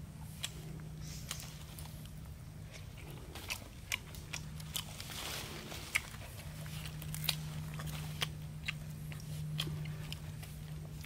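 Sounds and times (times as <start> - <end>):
person chewing food: 0.1 - 11.0.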